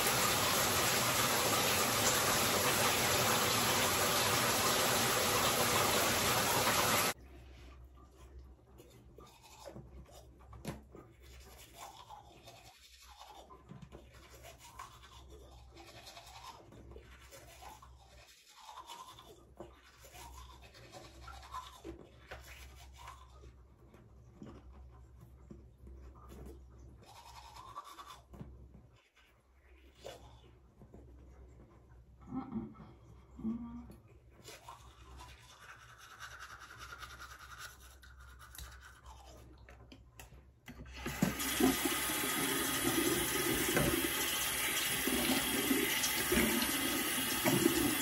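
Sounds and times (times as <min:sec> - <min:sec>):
toothbrush scrubbing teeth: 0:00.0 - 0:40.4, 0:41.0 - 0:48.0.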